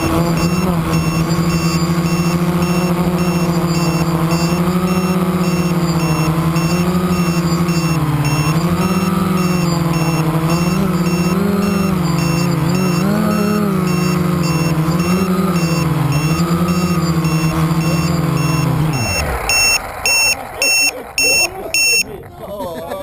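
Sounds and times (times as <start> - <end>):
quadcopter motors whining: 0.0 - 22.6
faint high beep: 0.2 - 22.1.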